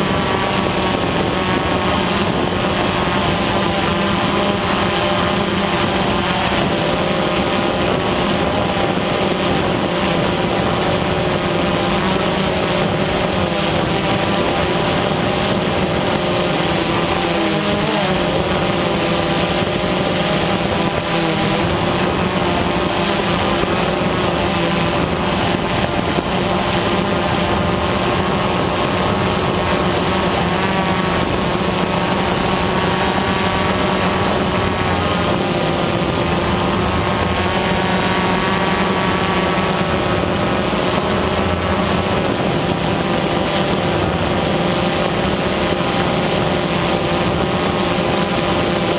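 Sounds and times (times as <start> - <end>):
drone propellers whining: 0.0 - 48.9.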